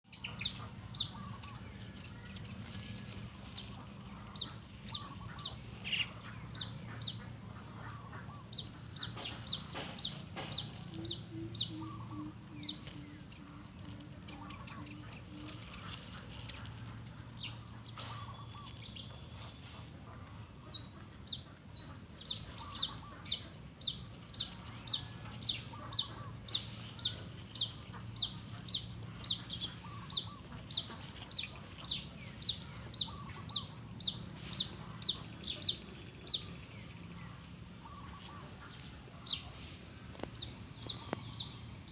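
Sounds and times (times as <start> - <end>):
bird chirping: 0.0 - 41.9
steady low hum: 0.1 - 41.9.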